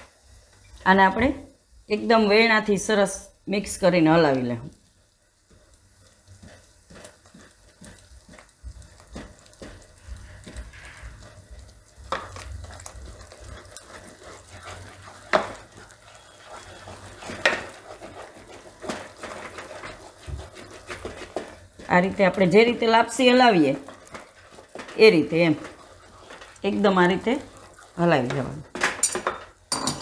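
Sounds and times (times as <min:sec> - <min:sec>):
rolling pin mashing dough in pot: 0:03.6 - 0:30.0.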